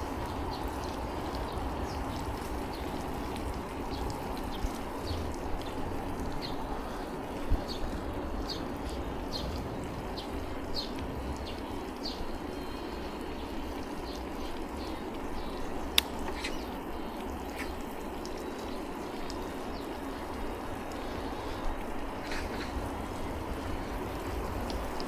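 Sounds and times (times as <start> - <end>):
bicycle tyres on wet pavement: 0.0 - 25.0.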